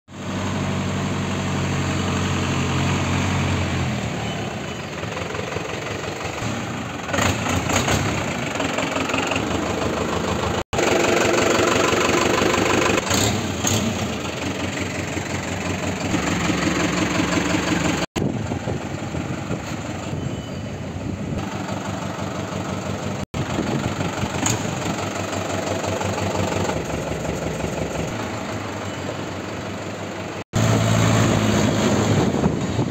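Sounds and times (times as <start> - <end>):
diesel truck engine: 0.1 - 32.9.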